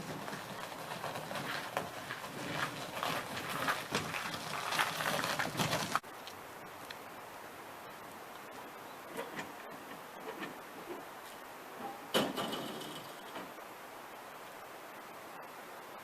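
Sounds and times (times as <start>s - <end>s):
faint hiss: 1.5s - 16.0s.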